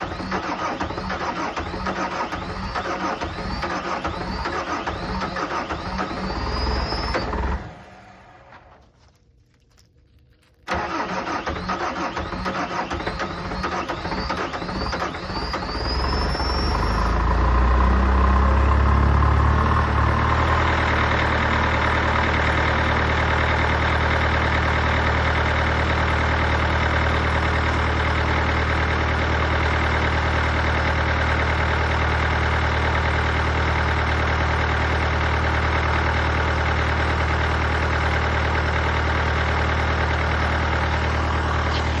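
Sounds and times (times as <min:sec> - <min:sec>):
vehicle engine idling: 0:00.0 - 0:09.8, 0:10.7 - 0:42.0.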